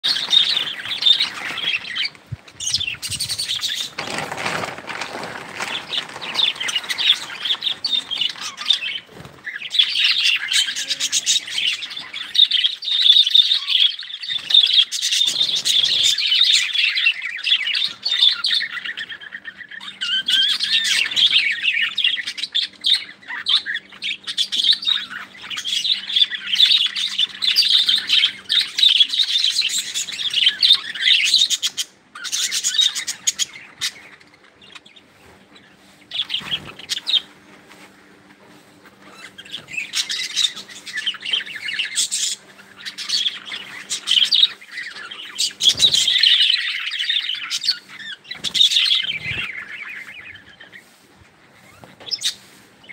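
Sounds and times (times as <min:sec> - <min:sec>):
budgerigars chattering: 0:00.0 - 0:04.2, 0:05.6 - 0:35.1, 0:39.0 - 0:52.9.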